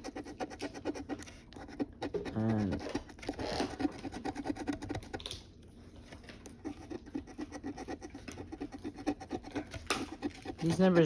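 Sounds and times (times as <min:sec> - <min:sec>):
lottery ticket scratching: 0:00.0 - 0:05.1, 0:06.7 - 0:11.0.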